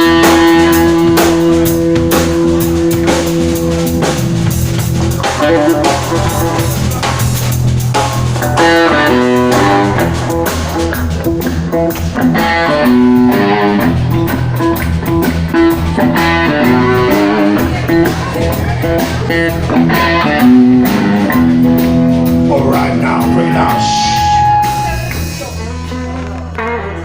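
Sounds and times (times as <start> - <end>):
bass guitar: 0.0 - 27.0
drums: 0.0 - 27.0
electric guitar lead lines: 0.0 - 27.0.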